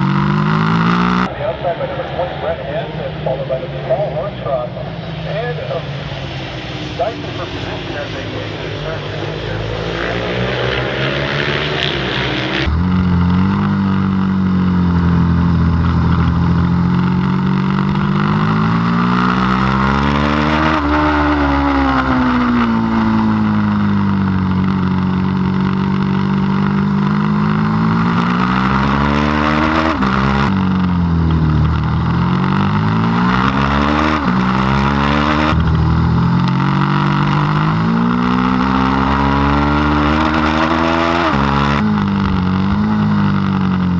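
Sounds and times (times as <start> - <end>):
motorcycle engine running hard: 0.0 - 43.9.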